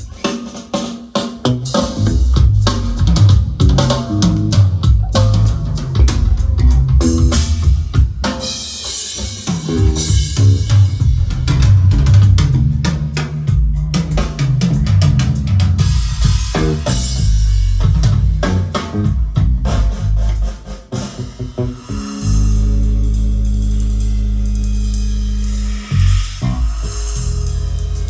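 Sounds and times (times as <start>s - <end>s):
music with drums and bass: 0.0s - 28.0s.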